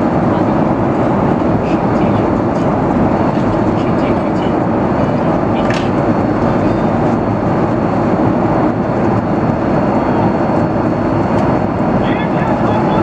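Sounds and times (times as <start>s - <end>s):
jet engine cabin roar: 0.0s - 13.0s.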